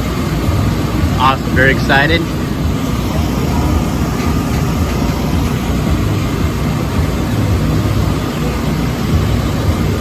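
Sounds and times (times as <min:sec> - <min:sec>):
low engine-like rumble: 0:00.0 - 0:10.0.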